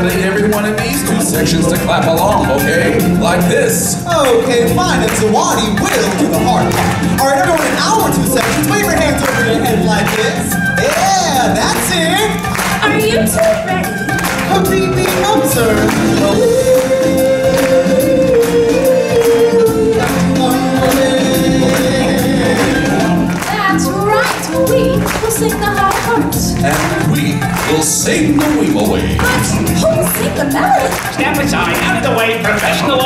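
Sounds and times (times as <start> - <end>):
live stage music with singing: 0.0 - 33.0.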